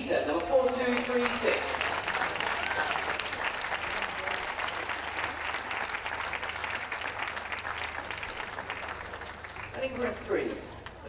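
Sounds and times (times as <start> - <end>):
audience applauding: 0.3 - 11.0.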